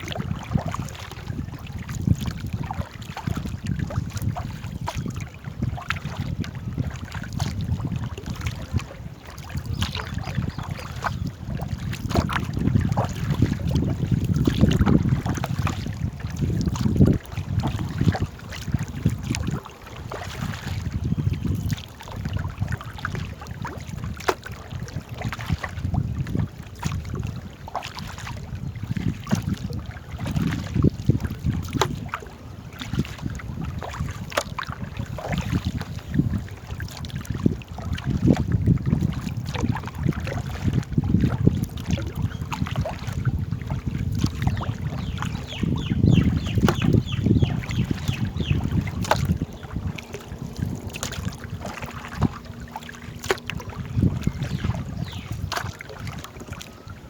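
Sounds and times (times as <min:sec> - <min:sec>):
water noise of paddled boat: 0:00.0 - 0:57.0
wind rumbling on microphone: 0:00.0 - 0:57.0.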